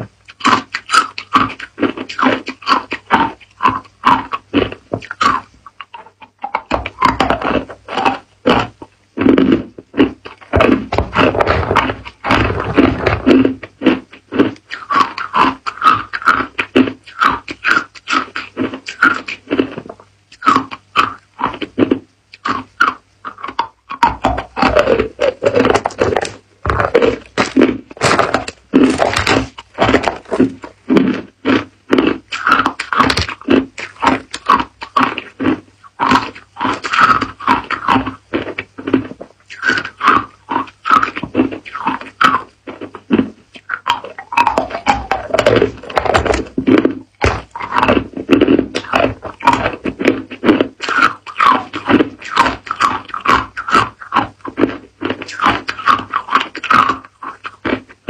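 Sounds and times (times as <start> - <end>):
ice cubes crunching in mouth: 6.8 - 57.9.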